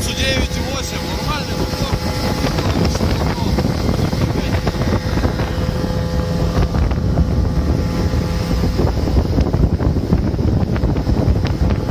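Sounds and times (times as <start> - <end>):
outboard motor running: 0.0 - 11.9
wind buffeting microphone: 0.0 - 11.9.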